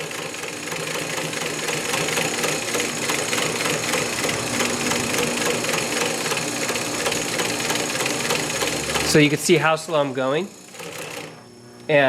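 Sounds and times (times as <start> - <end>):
sewing machine needle strokes: 0.0 - 11.4
motor hum: 0.0 - 12.0.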